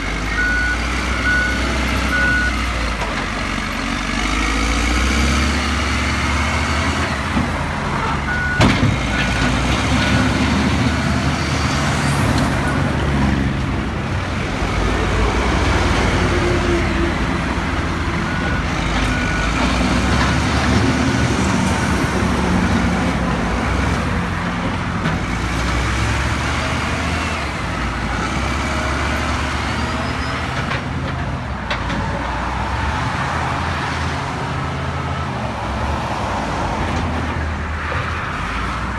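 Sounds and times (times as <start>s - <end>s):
wheel loader diesel engine: 0.0s - 38.9s.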